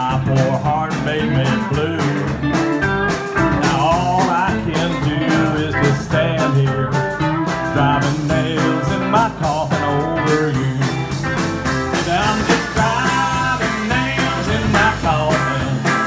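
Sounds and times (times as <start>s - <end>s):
bass guitar: 0.0s - 16.0s
drums: 0.0s - 16.0s
electric guitar lead: 0.0s - 16.0s.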